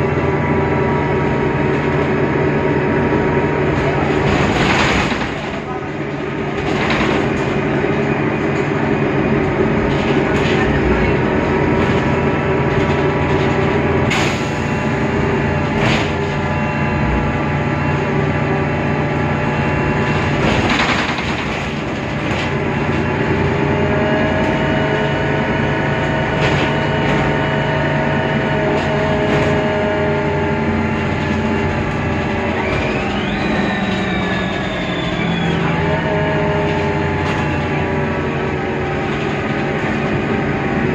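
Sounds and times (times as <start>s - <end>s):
bus diesel engine running: 0.0s - 40.9s
whining gearbox tones: 6.5s - 40.9s.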